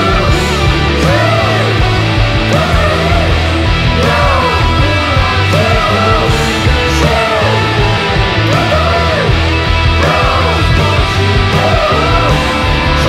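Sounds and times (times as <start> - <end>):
heavy bass: 0.0 - 13.0
sliding melodic lead line: 0.0 - 13.0.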